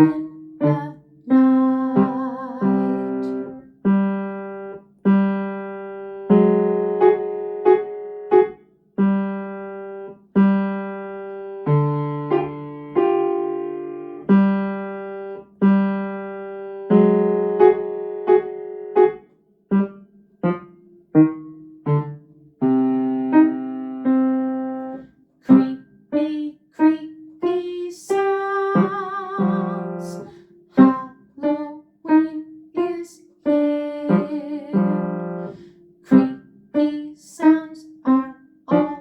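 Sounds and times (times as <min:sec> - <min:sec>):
slow piano piece: 0:00.0 - 0:39.0.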